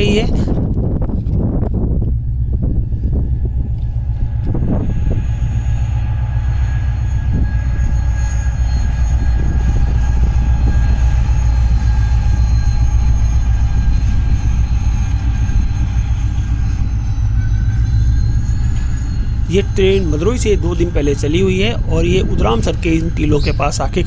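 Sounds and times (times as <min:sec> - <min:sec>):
high steady whine: 0:00.0 - 0:24.0
train low rumble: 0:00.0 - 0:24.0.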